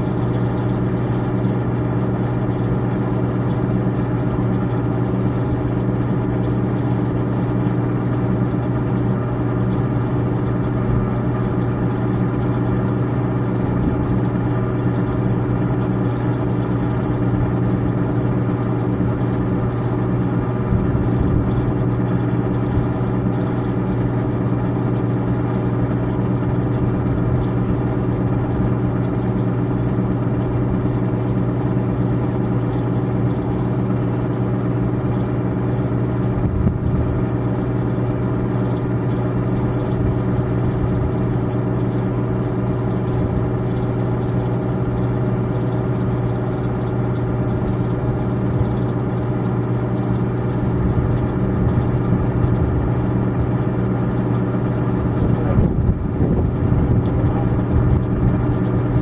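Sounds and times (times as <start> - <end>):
low mechanical motor hum: 0.0 - 59.0.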